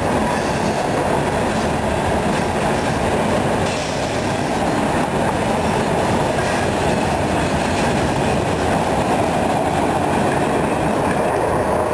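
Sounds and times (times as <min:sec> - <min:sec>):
freight train wheels on rails: 0:00.0 - 0:11.9.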